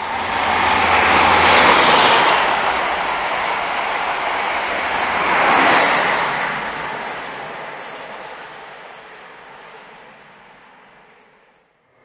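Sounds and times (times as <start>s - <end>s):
diesel train passing at speed: 0.0s - 12.0s
high engine whine: 0.0s - 12.0s.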